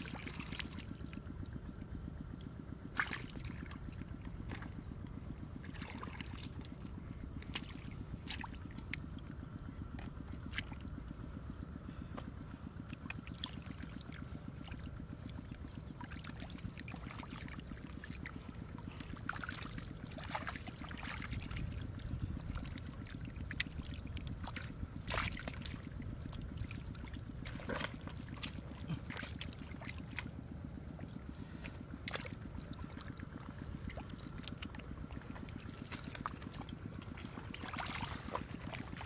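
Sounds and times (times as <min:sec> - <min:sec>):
water splashing and trickling: 0:00.0 - 0:04.8, 0:05.6 - 0:09.2, 0:12.9 - 0:39.0
low rumble: 0:00.0 - 0:39.0.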